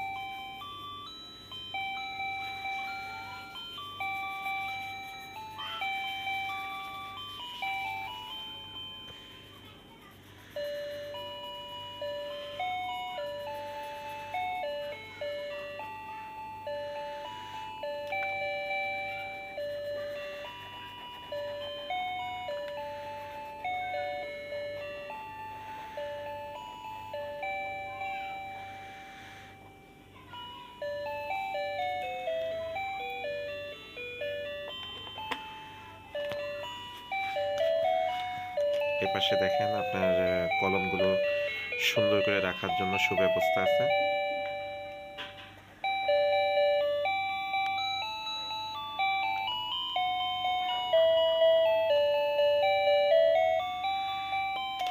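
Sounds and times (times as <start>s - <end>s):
tinkling bell-like melody: 0.0s - 54.9s.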